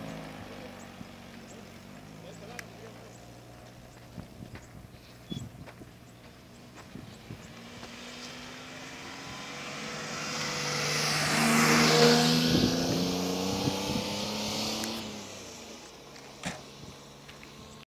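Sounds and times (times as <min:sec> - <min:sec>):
vehicle engine passing: 0:00.0 - 0:17.8.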